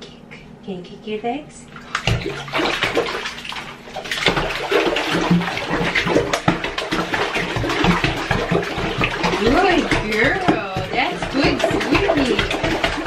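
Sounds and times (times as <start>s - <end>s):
dog splashing in bath water: 1.7s - 13.0s.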